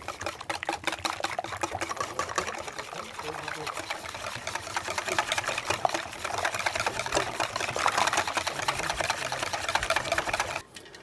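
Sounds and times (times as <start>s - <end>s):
wire whisk clicking in metal bowl: 0.0s - 10.6s.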